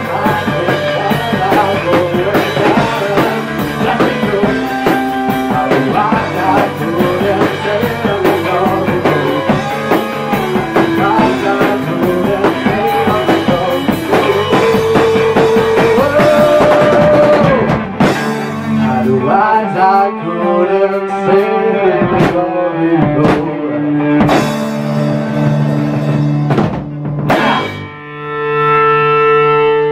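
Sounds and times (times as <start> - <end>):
drum kit: 0.0 - 20.0, 21.3 - 28.0
sung vocals: 0.0 - 25.2
bass guitar: 0.0 - 29.9
distorted electric guitars: 0.0 - 29.9.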